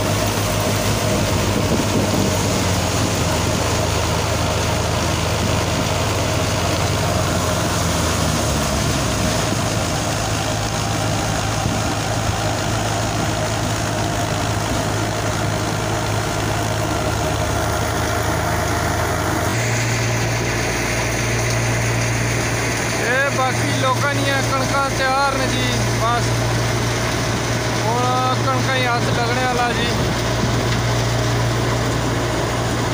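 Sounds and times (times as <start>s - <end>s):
thresher whirring and rushing: 0.0s - 32.9s
tractor diesel engine running: 0.0s - 32.9s.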